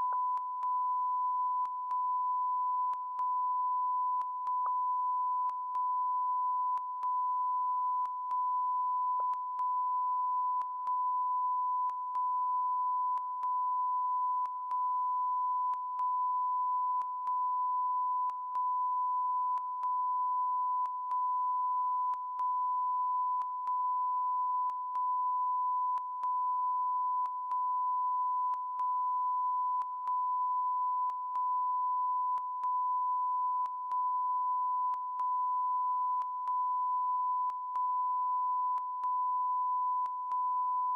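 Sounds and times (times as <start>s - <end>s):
continuous electronic beep: 0.0s - 40.9s.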